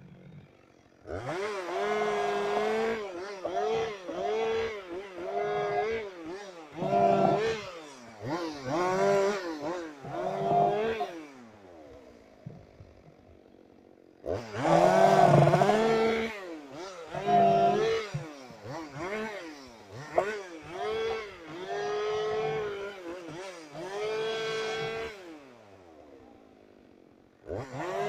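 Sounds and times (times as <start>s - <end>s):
chainsaw revving: 0.0s - 28.0s.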